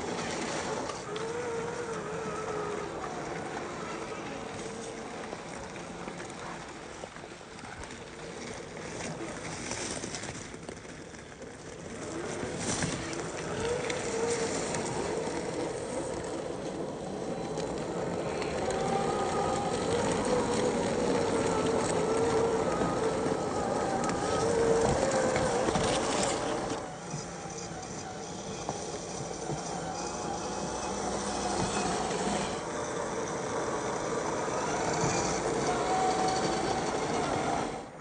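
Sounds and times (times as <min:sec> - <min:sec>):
electric motor whining: 0:00.0 - 0:06.4, 0:11.8 - 0:38.0.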